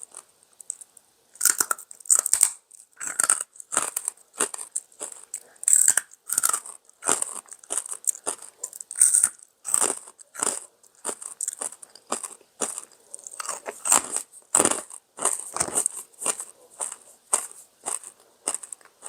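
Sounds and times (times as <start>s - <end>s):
crunching of fried pork rinds: 0.0s - 19.0s.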